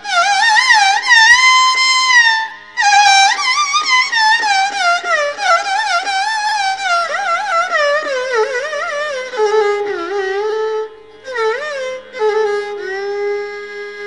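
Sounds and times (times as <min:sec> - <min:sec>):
ornamented melodic instrument: 0:00.0 - 0:14.0.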